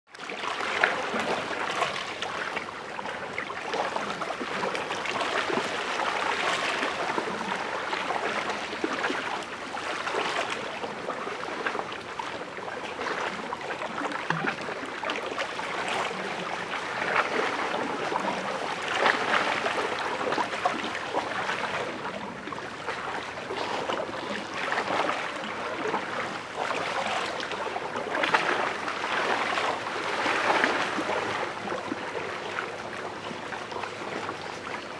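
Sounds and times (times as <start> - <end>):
lake waves lapping on rocks: 0.2 - 34.9.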